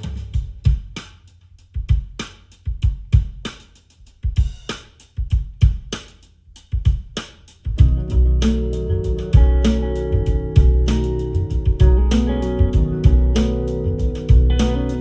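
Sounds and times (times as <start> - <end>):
drum kit beat on car stereo: 0.0 - 15.0.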